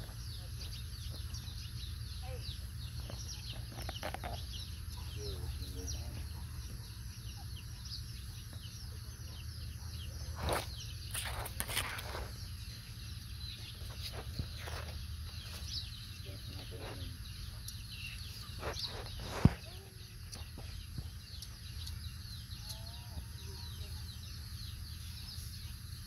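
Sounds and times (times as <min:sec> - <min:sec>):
faint bird calls: 0:00.0 - 0:26.0.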